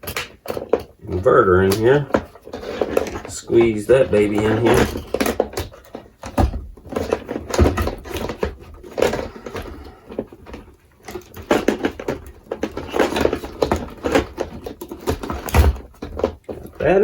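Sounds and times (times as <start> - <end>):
knocks clunks and scraping: 0.0 - 17.0.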